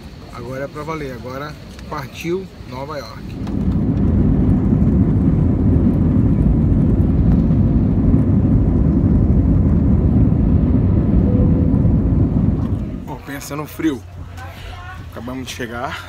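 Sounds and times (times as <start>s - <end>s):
jet engines roaring in cabin: 0.0s - 14.4s.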